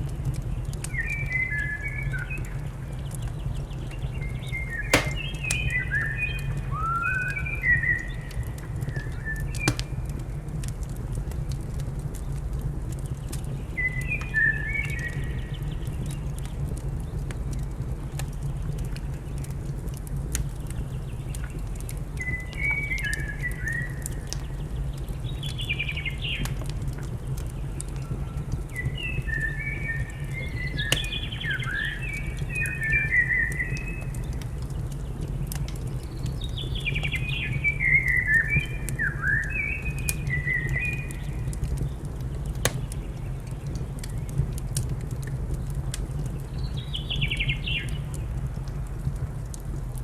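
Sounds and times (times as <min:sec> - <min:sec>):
fireplace fire crackles: 0:00.0 - 0:50.0.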